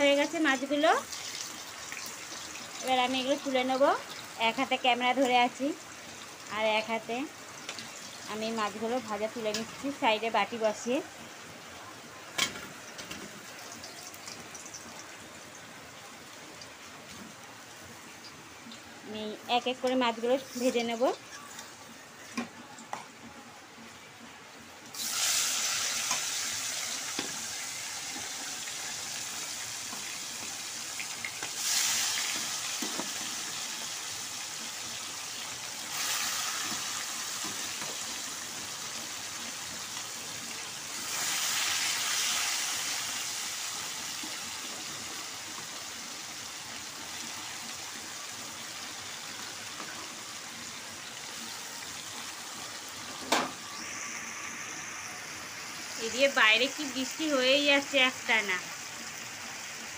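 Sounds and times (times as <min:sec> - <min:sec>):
fish frying in hot oil: 0:00.0 - 0:22.9, 0:24.6 - 0:59.9.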